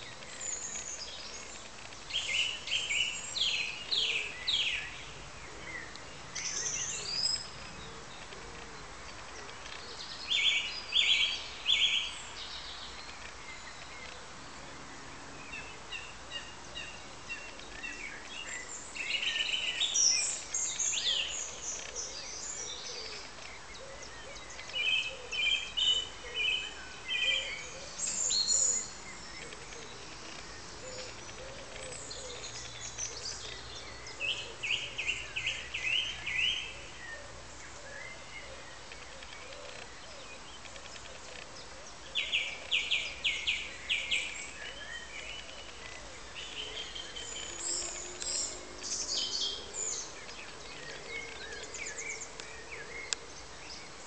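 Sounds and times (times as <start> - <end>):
small birds singing: 0.0 - 54.0
steady background hiss: 0.0 - 54.0.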